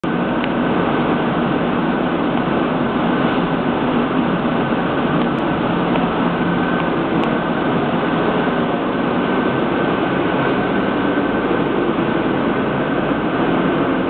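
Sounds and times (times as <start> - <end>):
steady rumbling noise: 0.0 - 14.0.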